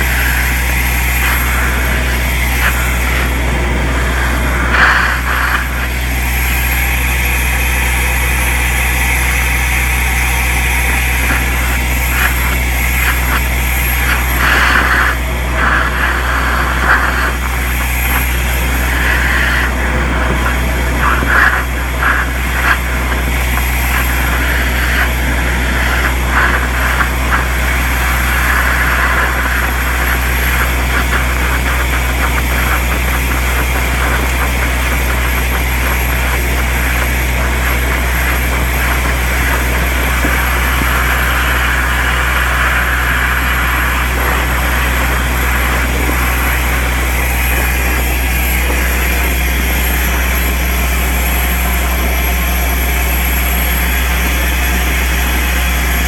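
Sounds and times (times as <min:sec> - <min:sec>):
soil rattling through pipe: 0:00.0 - 0:56.0
vacuum excavator droning with whine: 0:00.0 - 0:56.0.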